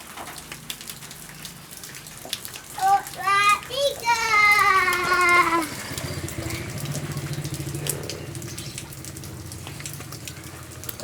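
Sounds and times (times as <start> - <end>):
rain drops pattering: 0.0 - 11.0.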